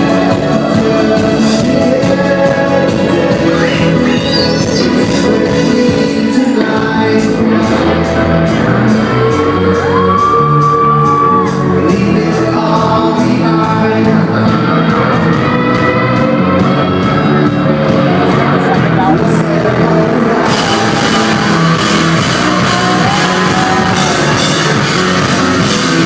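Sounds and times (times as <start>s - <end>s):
synthesizer chords: 0.0s - 26.0s.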